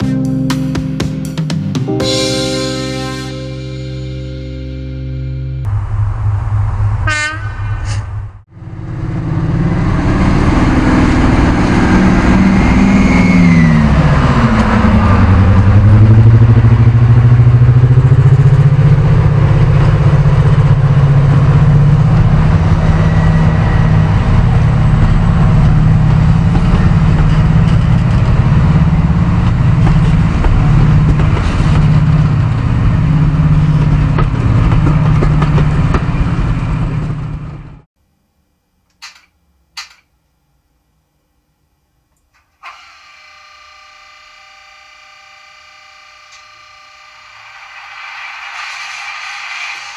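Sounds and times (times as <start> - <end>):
diesel locomotive engine starting: 0.0 - 37.9, 43.9 - 49.9.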